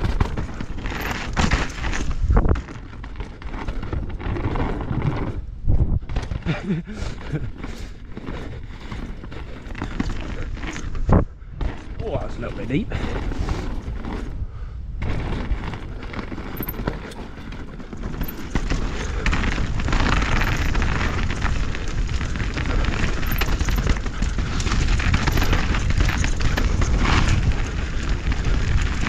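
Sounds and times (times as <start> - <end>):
wind buffeting microphone: 0.0 - 2.7, 4.0 - 29.0
bike knocking and rattling: 0.0 - 29.0
bike tyres rolling over dirt: 0.0 - 29.0.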